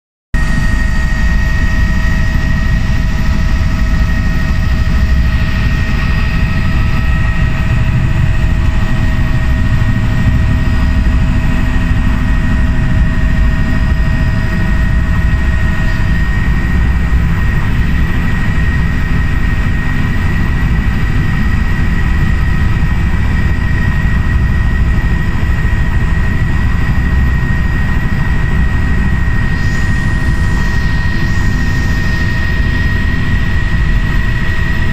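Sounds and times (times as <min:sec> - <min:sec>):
helicopter engine and rotor: 0:00.4 - 0:34.9.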